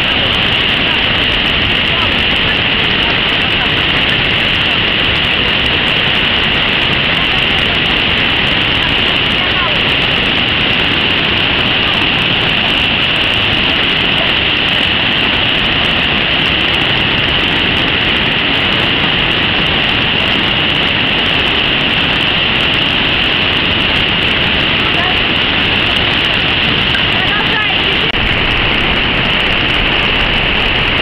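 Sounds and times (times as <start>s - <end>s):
river rushing through rapids: 0.0s - 31.0s.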